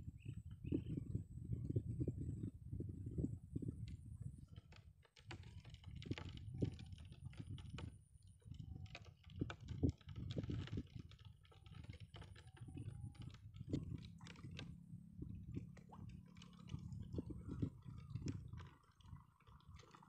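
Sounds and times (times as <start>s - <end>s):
soft clicks and rustles: 3.8s - 20.0s.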